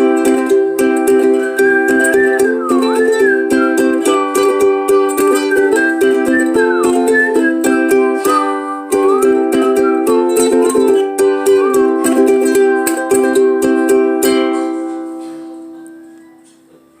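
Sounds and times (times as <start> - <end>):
ukulele strumming and picking: 0.0 - 16.7.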